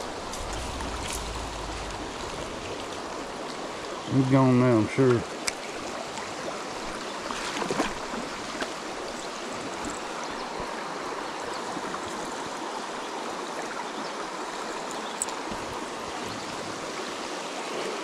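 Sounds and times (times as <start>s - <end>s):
creek water flowing over stones: 0.0s - 18.0s.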